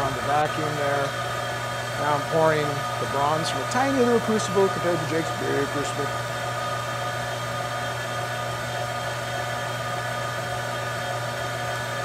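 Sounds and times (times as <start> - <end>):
vacuum pump humming and hissing: 0.0 - 12.0.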